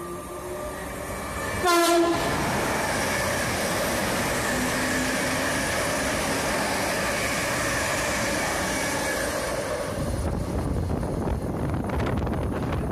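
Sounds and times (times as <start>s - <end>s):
train passing at speed: 0.0s - 12.9s.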